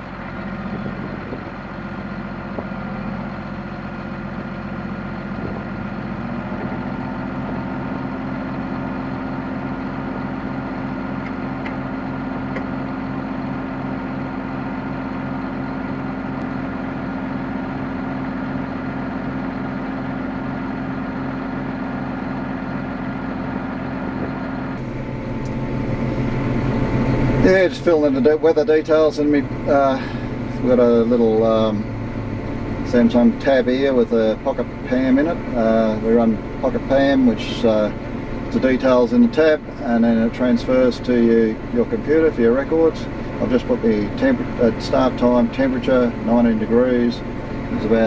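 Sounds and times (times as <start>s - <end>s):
diesel tractor engine running: 0.0s - 48.0s.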